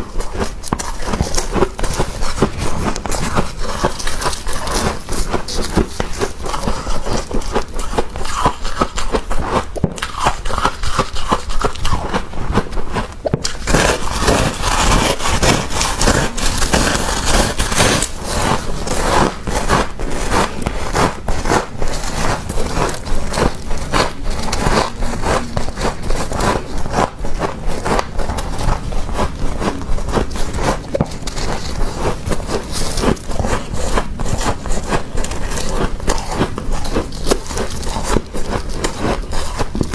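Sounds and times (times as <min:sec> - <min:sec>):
frost being scraped and crunched: 0:00.0 - 0:39.9.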